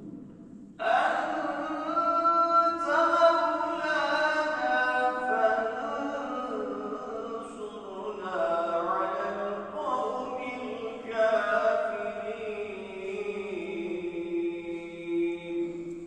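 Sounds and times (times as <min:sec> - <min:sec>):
man chanting unaccompanied: 0:00.8 - 0:16.0.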